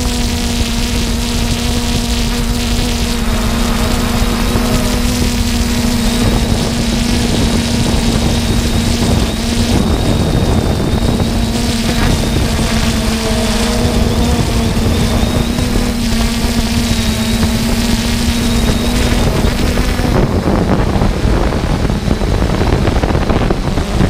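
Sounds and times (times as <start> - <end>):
drone propellers buzzing: 0.0 - 24.0
wind rushing over microphone: 0.0 - 24.0.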